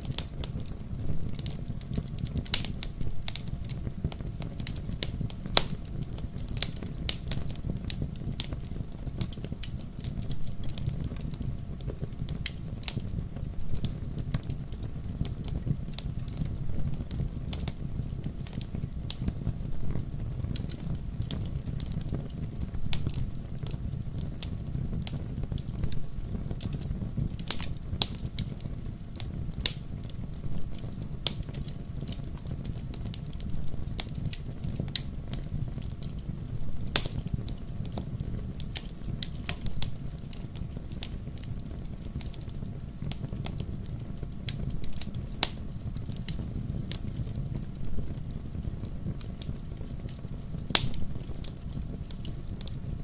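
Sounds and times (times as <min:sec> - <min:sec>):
burning wood crackling: 0:00.0 - 0:53.0
flames rumbling: 0:00.0 - 0:53.0.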